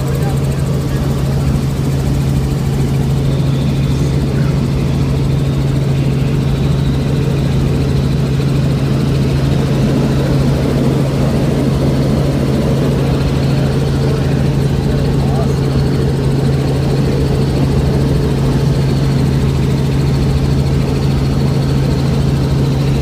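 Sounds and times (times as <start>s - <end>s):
helicopter engine and rotors: 0.0s - 23.0s.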